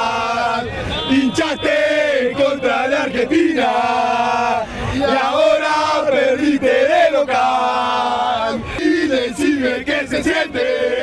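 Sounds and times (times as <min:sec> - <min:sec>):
men singing a football chant: 0:00.0 - 0:11.0.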